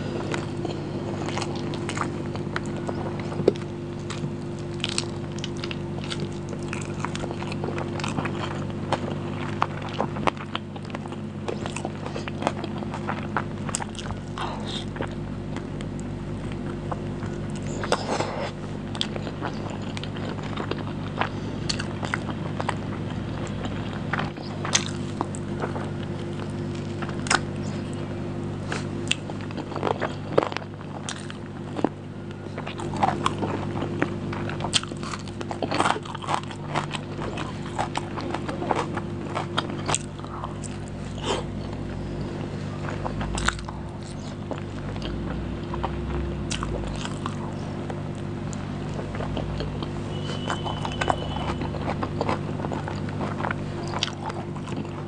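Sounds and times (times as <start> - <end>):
steady low hum: 0.0 - 55.0
wet chewing and lip smacks: 0.2 - 55.0.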